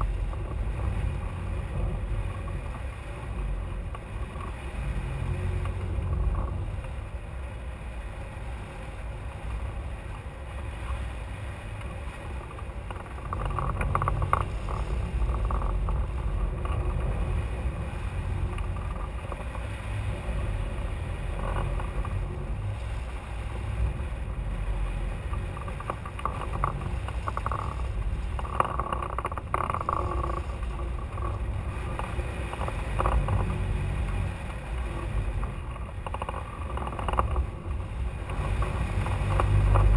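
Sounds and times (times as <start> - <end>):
wind buffeting a camera: 0.0 - 39.9.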